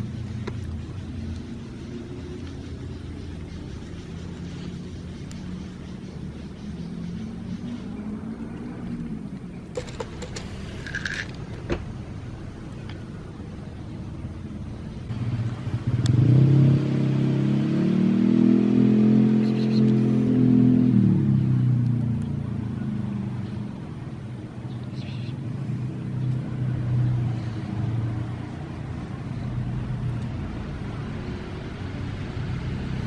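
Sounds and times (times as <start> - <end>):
motor vehicle passing: 0.0 - 33.0.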